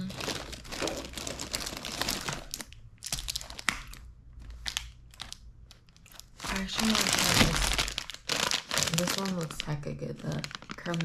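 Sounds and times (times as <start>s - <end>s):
plastic wrappers crinkling: 0.0s - 11.0s
wrapper crackles: 0.0s - 11.0s.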